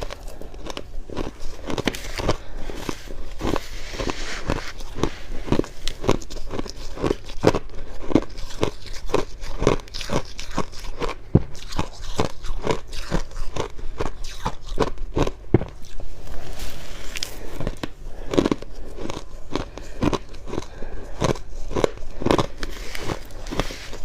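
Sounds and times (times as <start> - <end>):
chewing crunchy frost: 0.0 - 24.0.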